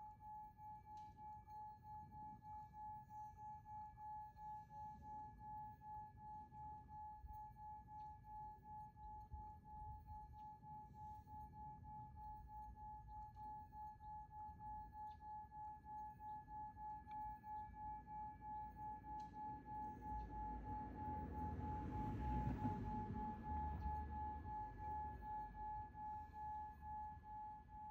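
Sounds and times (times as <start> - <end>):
singing bowl pulsing tone: 0.0 - 27.9.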